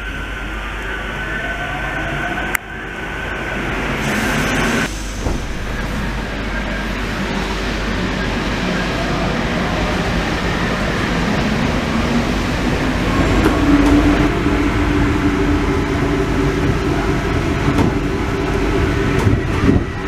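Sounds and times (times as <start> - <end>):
train rumbling through tunnel: 0.0 - 20.0.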